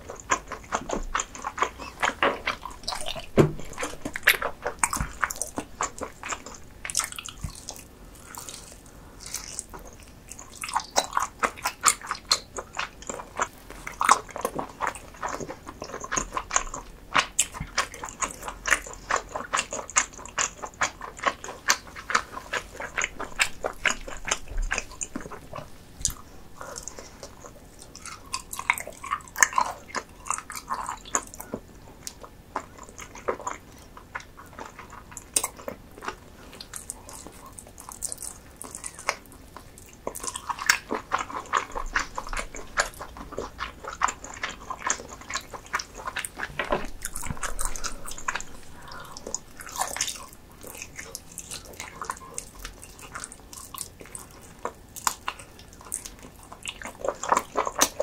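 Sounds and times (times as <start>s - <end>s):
biting and chewing food: 0.0s - 58.0s.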